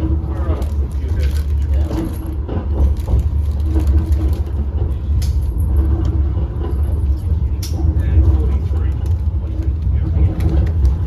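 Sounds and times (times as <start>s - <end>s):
tram rumbling along track: 0.0s - 11.0s.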